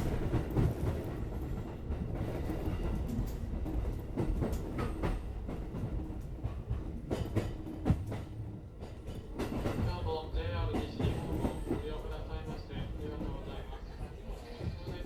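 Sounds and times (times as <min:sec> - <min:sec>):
clickety-clack over rail joints: 0:00.0 - 0:15.0
train wheels rumbling on rail: 0:00.0 - 0:15.0.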